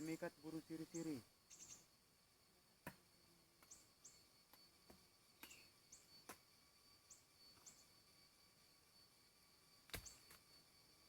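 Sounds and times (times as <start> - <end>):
high insect tone: 0.0 - 11.0.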